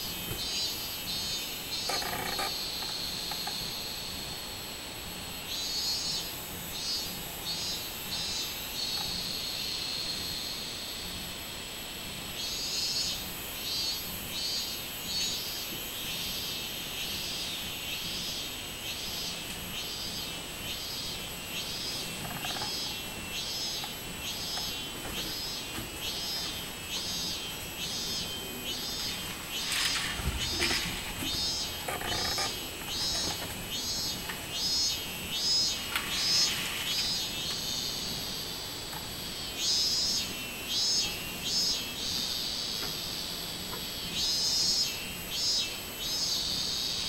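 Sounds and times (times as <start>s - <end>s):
cicadas buzzing and pulsing: 0.0s - 47.0s.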